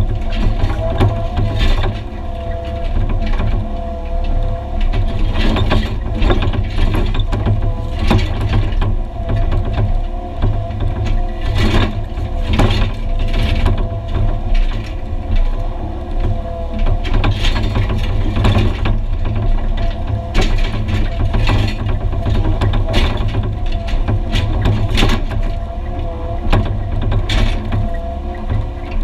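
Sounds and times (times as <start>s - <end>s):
diesel engine droning under load: 0.0s - 29.0s
metallic clanks and scrapes: 0.0s - 29.0s.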